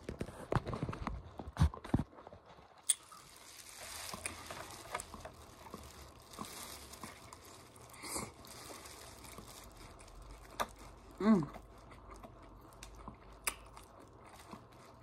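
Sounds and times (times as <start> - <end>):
open-mouthed chewing and smacking: 2.8 - 15.0.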